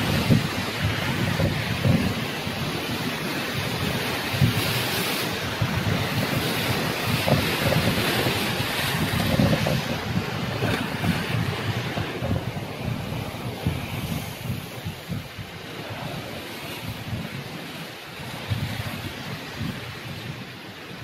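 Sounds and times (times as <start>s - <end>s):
ocean surf breaking on rocks: 0.0s - 21.0s
wind buffeting microphone: 0.0s - 21.0s.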